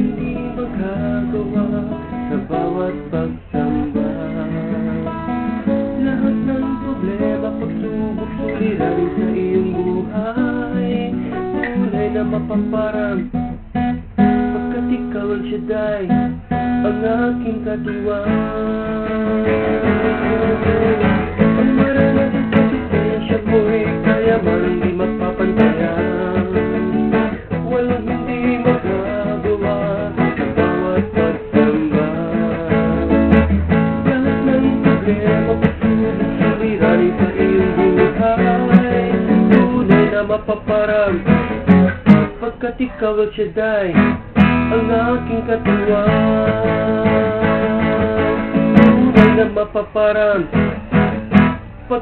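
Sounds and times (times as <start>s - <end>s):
acoustic guitar gospel music: 0.0s - 52.0s.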